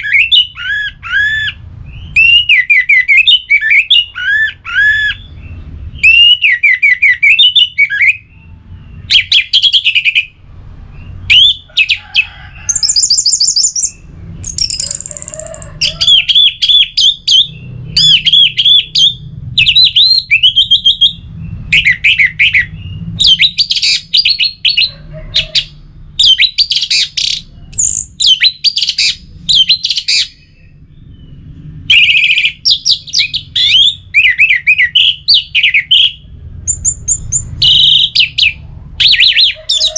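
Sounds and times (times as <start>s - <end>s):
bird singing whistled phrases: 0.0s - 10.3s, 12.8s - 24.9s, 26.2s - 39.9s.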